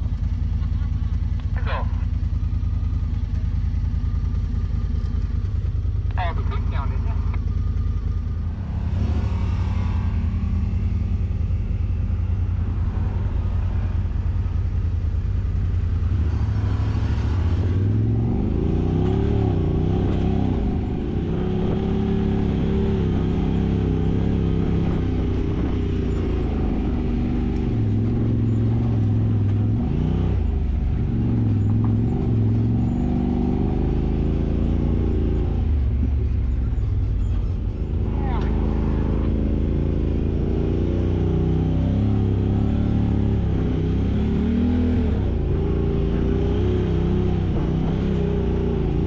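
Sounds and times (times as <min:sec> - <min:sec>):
utility vehicle engine revving: 0:00.0 - 0:49.0.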